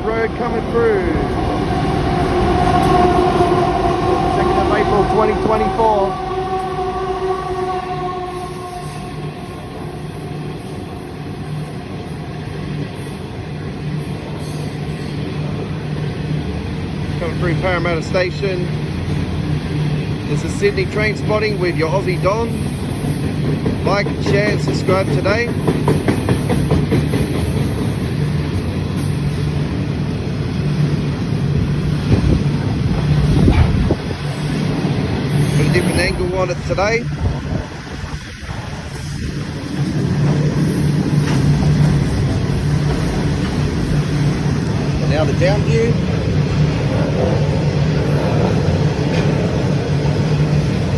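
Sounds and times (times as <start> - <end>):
freight train wheels rumbling on rails: 0.0 - 50.9.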